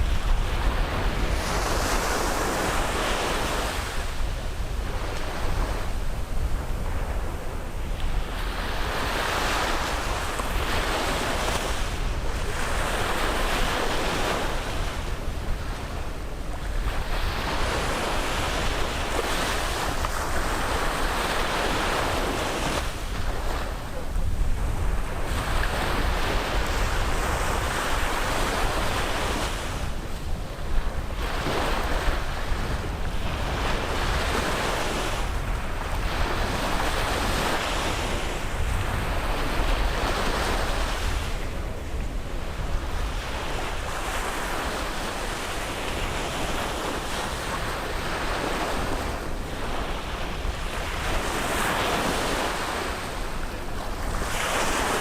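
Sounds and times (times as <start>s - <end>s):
sea waves breaking on beach: 0.0s - 55.0s
wind rumble on microphone: 0.0s - 55.0s.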